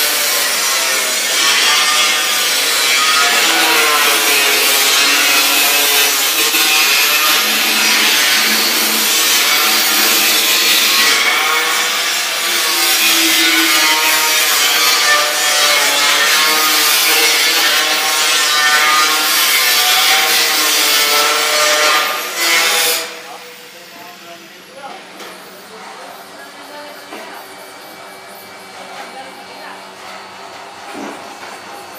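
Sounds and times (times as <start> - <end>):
angle grinder grinding steel: 0.0 - 31.9.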